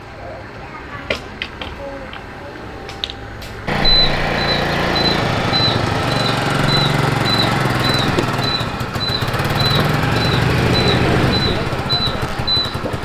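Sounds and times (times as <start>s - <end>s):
small motorbike engine running: 1.4s - 13.0s.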